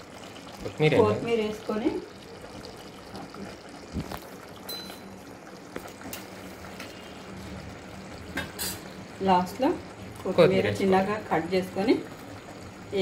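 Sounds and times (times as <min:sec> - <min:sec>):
curry bubbling in a pot: 0:00.0 - 0:13.0.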